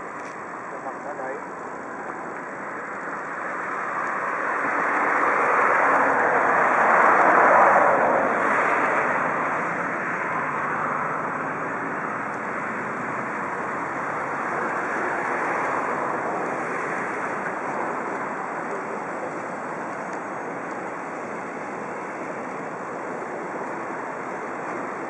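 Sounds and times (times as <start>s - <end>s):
train rumbling along tracks: 0.0s - 25.0s.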